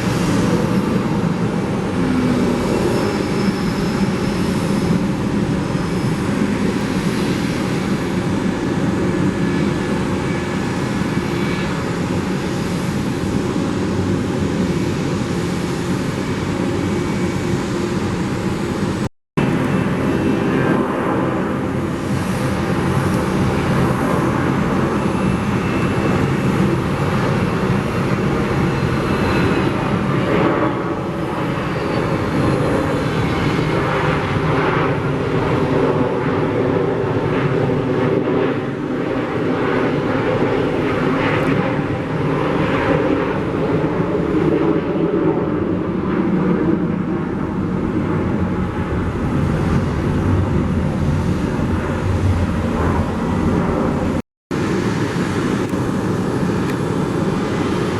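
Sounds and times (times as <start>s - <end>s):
jet engines running loudly: 0.0s - 57.9s.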